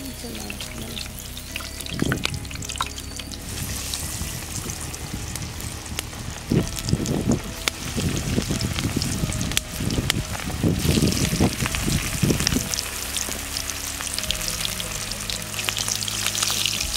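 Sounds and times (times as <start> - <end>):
chicken sizzling in hot oil: 0.0 - 16.9
low bursts of frying: 0.0 - 16.9.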